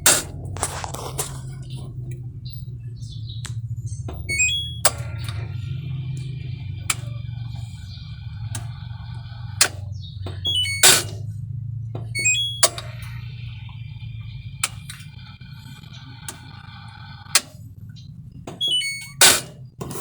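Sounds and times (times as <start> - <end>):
falling electronic beeps: 0.0 - 19.3
sharp clicks: 0.0 - 20.0
washing machine humming: 0.0 - 20.0.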